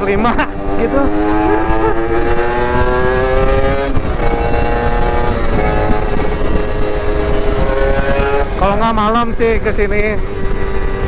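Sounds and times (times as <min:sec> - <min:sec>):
two-stroke motorcycle engine: 0:00.0 - 0:11.0
wind rumble on microphone: 0:00.0 - 0:11.0.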